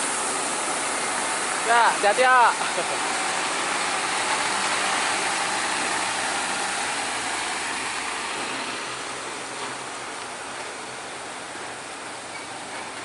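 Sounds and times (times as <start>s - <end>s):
heavy truck engine: 0.0s - 13.0s
rushing road noise: 0.0s - 13.0s.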